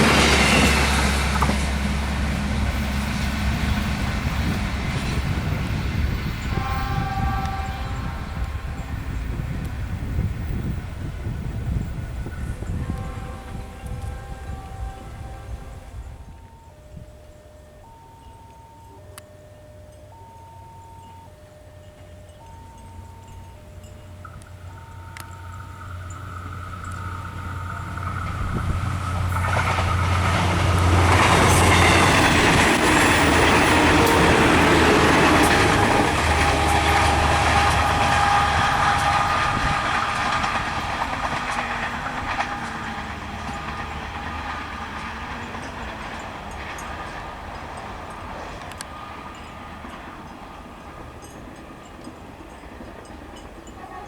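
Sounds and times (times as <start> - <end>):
train passing at speed: 0.0 - 54.0.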